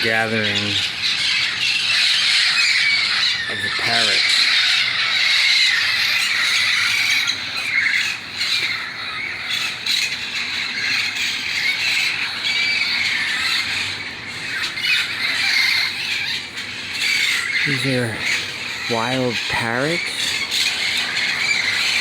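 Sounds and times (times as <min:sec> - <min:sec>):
parrots squawking and screeching: 0:00.0 - 0:22.0.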